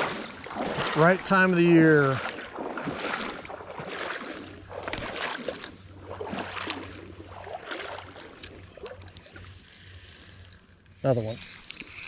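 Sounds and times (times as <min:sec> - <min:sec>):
water swishing and sloshing: 0:00.0 - 0:12.0.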